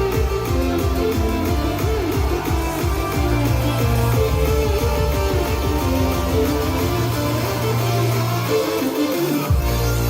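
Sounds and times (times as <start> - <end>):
steady bass note: 0.0 - 8.5.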